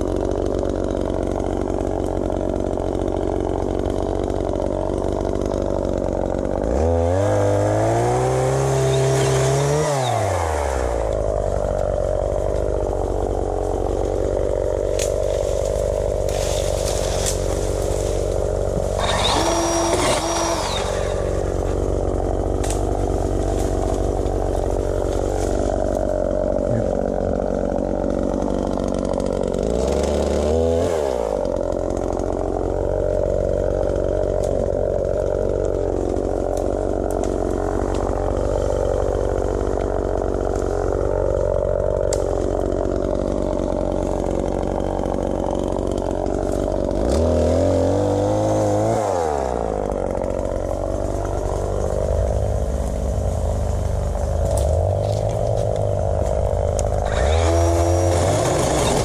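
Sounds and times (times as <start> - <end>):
two-stroke engine idling and revving: 0.0 - 59.0.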